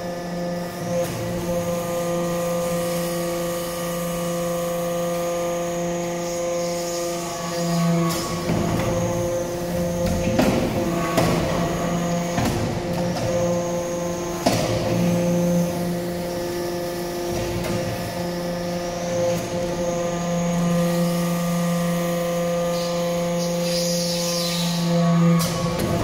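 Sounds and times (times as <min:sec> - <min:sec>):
hydraulic press humming: 0:00.0 - 0:26.0.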